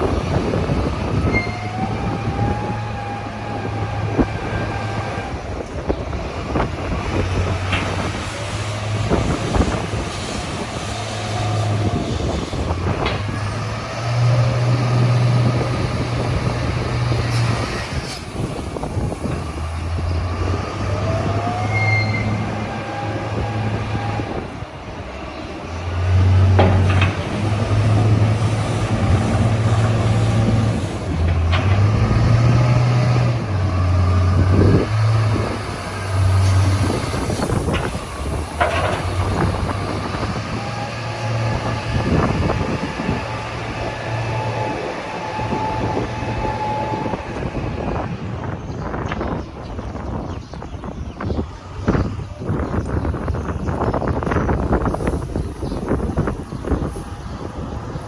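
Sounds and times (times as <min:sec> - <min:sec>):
gusty wind on microphone: 0:00.0 - 0:58.0.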